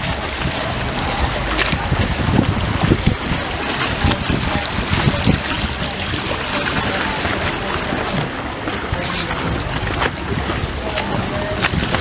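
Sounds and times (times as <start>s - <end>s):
water against boat hull: 0.0s - 12.0s
wind buffeting microphone: 0.0s - 12.0s.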